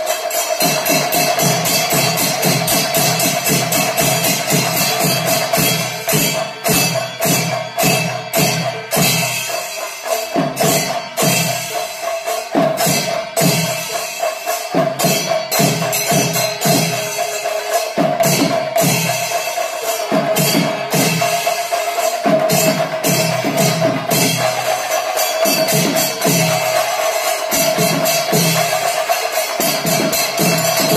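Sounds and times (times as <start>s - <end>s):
cymbals clashing: 0.0s - 30.9s
drums beating: 0.0s - 30.9s.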